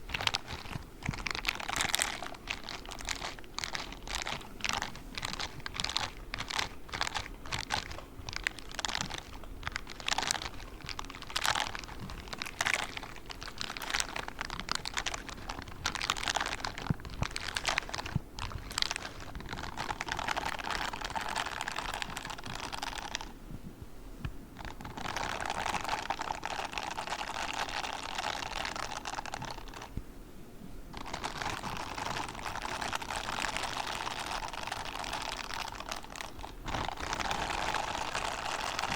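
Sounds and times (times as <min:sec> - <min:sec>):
scratchy rubbing of gloves: 0:00.0 - 0:23.4, 0:30.9 - 0:38.9
gloves tapping and scratching: 0:00.0 - 0:30.0, 0:30.9 - 0:38.9.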